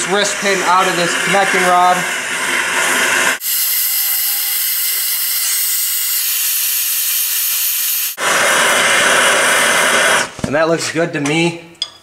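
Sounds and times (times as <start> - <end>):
gas torch hissing: 0.0 - 10.4.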